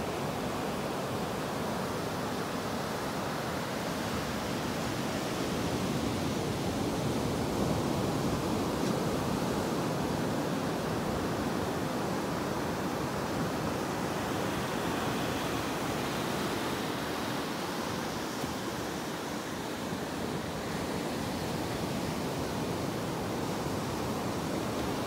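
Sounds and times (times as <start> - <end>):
waves washing up beach: 0.0 - 25.0.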